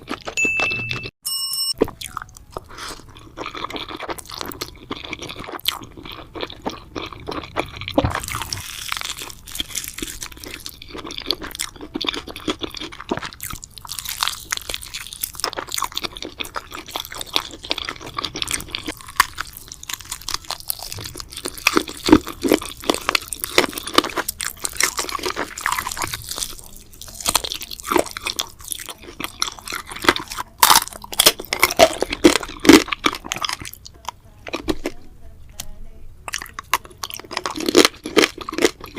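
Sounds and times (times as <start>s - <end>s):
close chewing and crunching: 0.0s - 1.1s, 1.7s - 38.9s.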